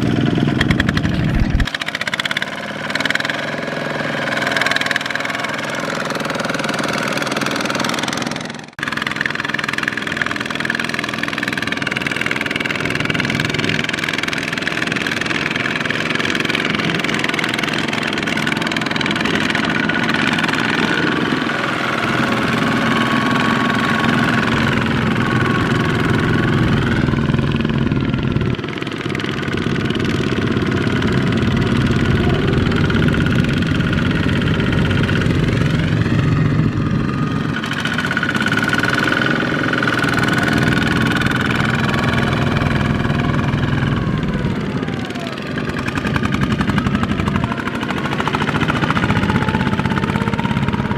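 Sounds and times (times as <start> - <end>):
diesel tractor engine running: 0.0 - 50.9.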